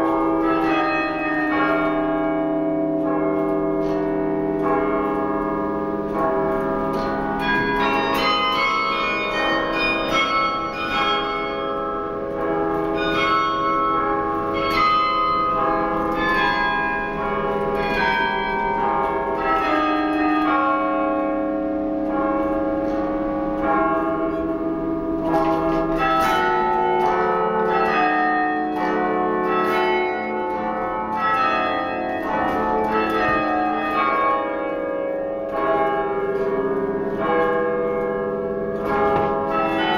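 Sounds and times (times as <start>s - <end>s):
carillon bells melody: 0.0s - 39.9s.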